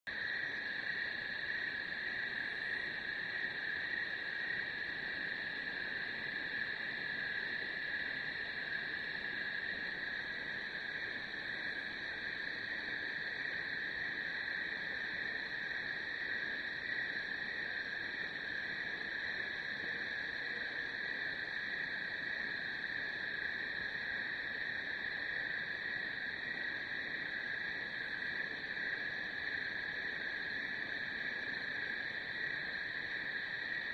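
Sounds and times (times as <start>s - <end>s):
high-pitched chorus of night animals: 0.1s - 33.9s.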